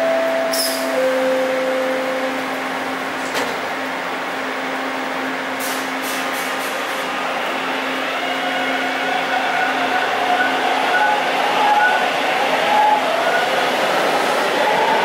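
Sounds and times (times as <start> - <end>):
subway train humming: 0.0 - 15.0.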